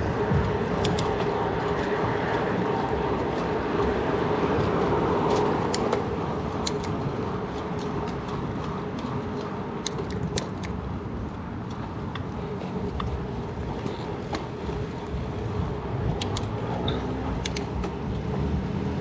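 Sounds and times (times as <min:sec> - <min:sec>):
bicycle clicks and rattles: 0:00.0 - 0:18.4
bicycle wind and tyre noise: 0:00.0 - 0:19.0.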